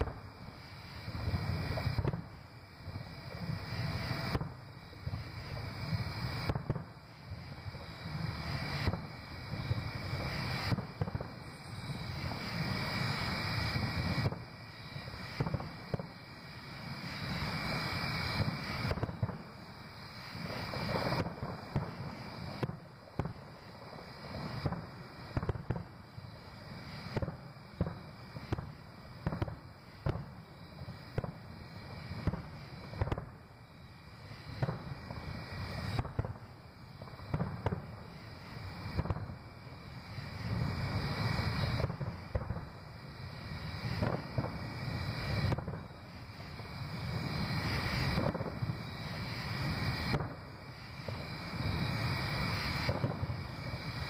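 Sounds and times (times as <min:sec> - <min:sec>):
distant fireworks booming: 0:00.0 - 0:54.0.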